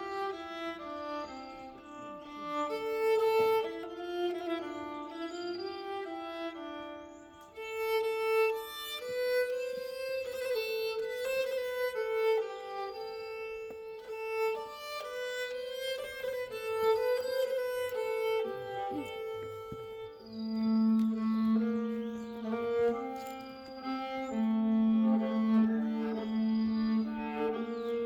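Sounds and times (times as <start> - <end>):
bowed keyed fiddle folk melody: 0.0 - 28.0.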